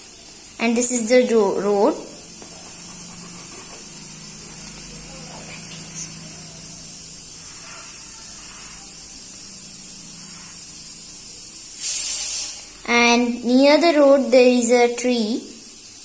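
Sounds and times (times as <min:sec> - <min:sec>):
steady high-pitched hiss: 0:00.0 - 0:16.0.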